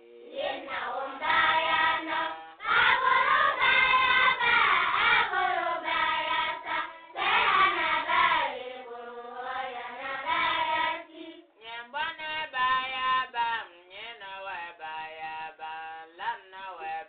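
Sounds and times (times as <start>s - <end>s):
voices singing a chant: 0.0s - 17.0s.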